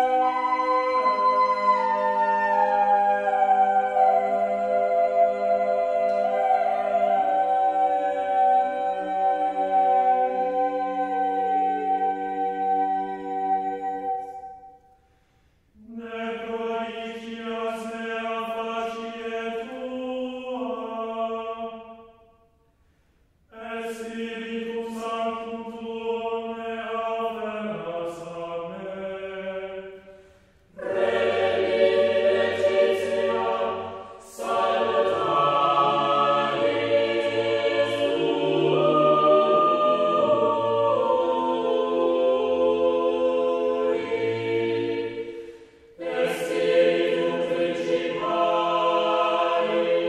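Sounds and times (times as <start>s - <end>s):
choral chant: 0.0s - 15.0s, 15.8s - 22.3s, 23.5s - 50.0s.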